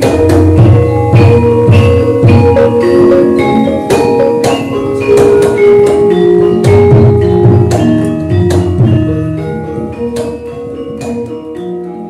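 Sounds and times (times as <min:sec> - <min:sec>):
metallophones ringing melody: 0:00.0 - 0:12.0.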